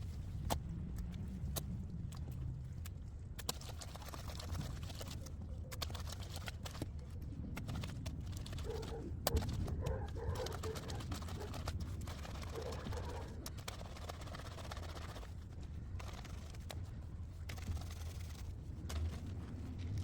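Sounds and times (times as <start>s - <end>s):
scrubbing wet laundry: 3.4s - 20.0s.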